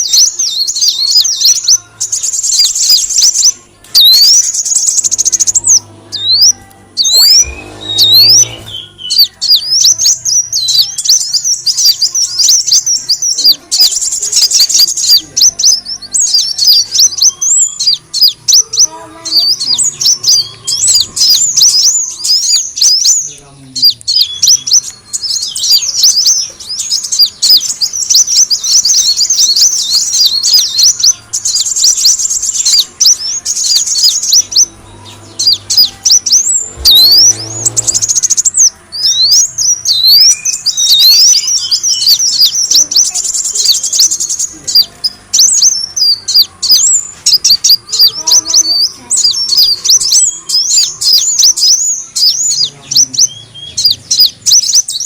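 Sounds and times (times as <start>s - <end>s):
bird twittering chirps and trills: 0.0s - 55.0s.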